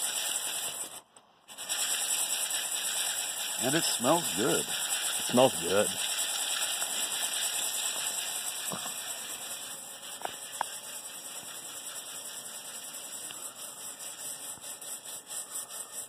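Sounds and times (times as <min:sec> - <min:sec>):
coffee beans stirred in metal bowl: 0:00.0 - 0:16.0
steady hiss: 0:00.0 - 0:16.0.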